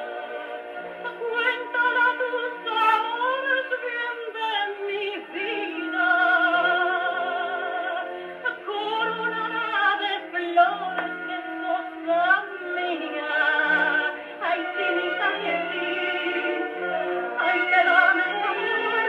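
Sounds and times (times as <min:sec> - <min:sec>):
woman singing with vibrato: 0:01.0 - 0:19.0.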